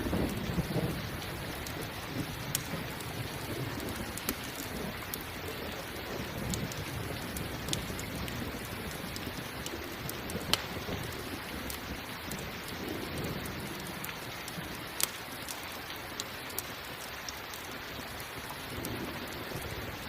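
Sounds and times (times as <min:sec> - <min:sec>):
low rumble of thunder: 0:00.0 - 0:15.0, 0:18.4 - 0:20.0
campfire crackling and popping: 0:00.0 - 0:20.0
steady rain: 0:00.0 - 0:20.0.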